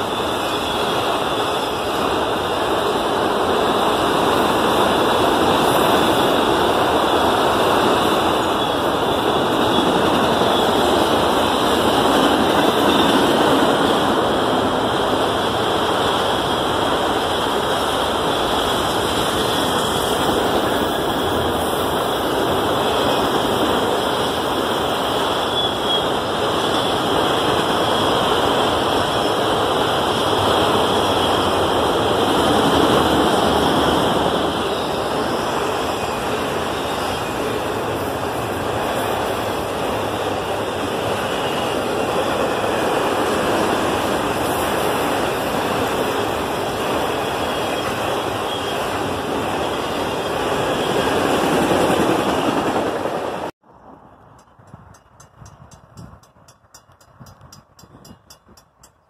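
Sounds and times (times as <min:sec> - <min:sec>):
steel train wheels rolling on rails: 0:00.0 - 0:59.0.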